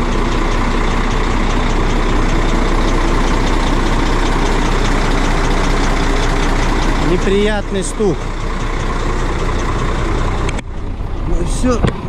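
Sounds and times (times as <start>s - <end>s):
diesel truck engine idling: 0.0s - 12.0s
engine knocking: 0.0s - 12.0s.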